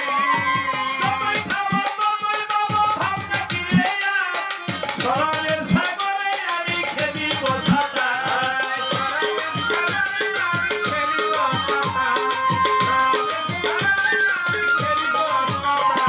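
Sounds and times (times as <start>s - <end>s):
hand drum accompaniment: 0.0s - 16.0s
man singing into a microphone: 0.0s - 16.0s.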